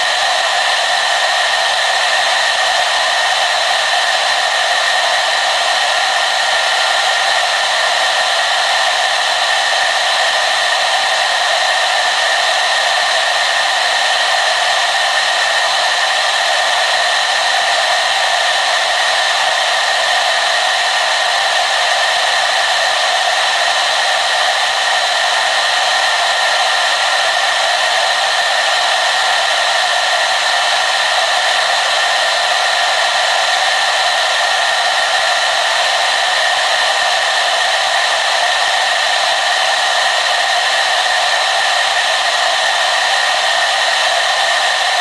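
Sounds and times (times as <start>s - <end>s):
hair dryer running: 0.0s - 45.0s.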